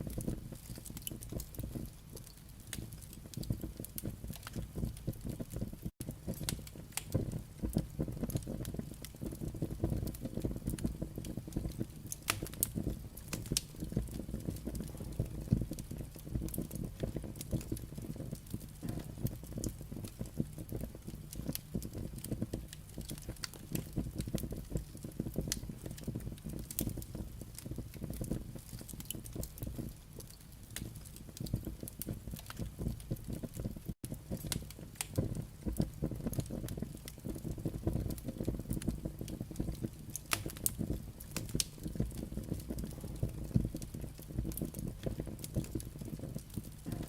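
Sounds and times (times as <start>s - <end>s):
logs crackling and popping: 0.0s - 47.0s
wood fire burning: 0.0s - 47.0s.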